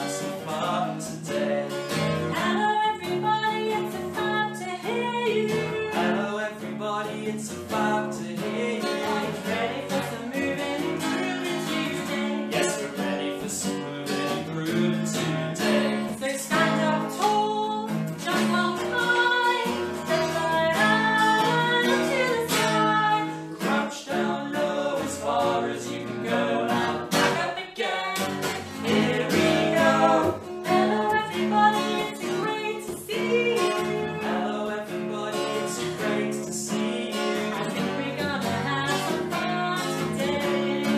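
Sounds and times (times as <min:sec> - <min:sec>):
acoustic guitar strumming: 0:00.0 - 0:40.9
man and woman singing: 0:00.0 - 0:40.9.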